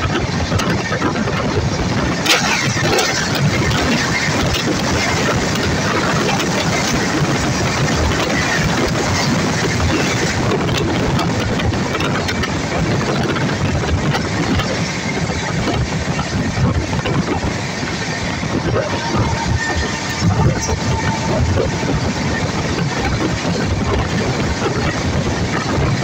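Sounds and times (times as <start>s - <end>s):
freight train running: 0.0s - 26.0s
passenger train passing: 0.0s - 26.0s.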